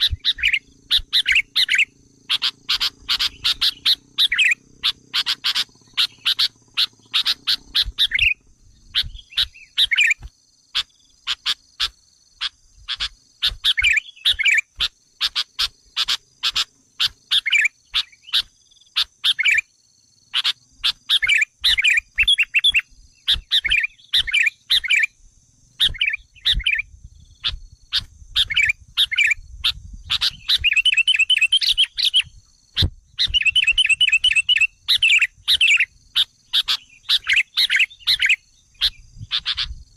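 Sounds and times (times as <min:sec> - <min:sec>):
bulbul calls: 0:00.0 - 0:19.7, 0:20.3 - 0:25.2, 0:25.8 - 0:39.9.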